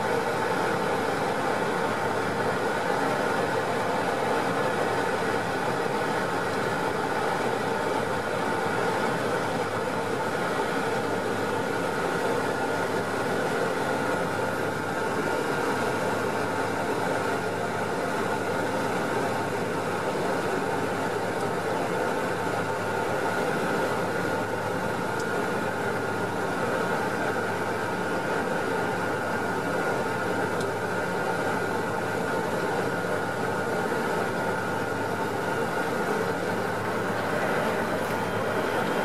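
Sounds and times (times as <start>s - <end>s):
propeller plane engine drone: 0.0s - 39.0s.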